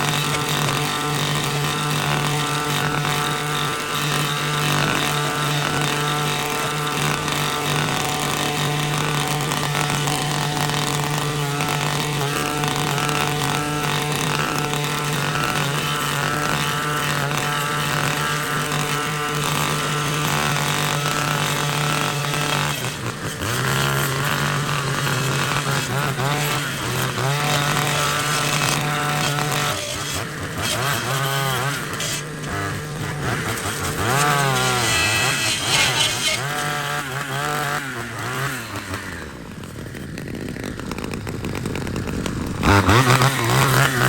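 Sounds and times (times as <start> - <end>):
brush cutter engine at high throttle: 0.0 - 44.0.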